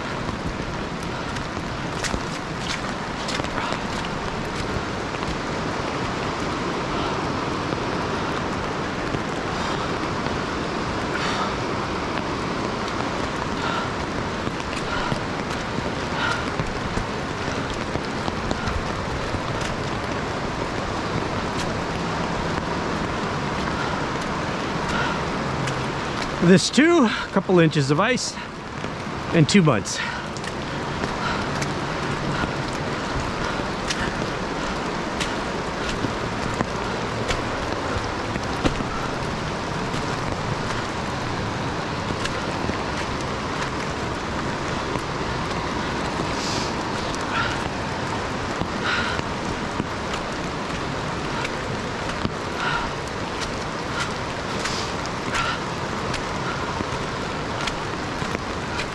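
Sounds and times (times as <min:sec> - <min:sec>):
footsteps on wet leaves and rock: 0:00.0 - 0:58.9
river rushing: 0:00.0 - 0:58.9.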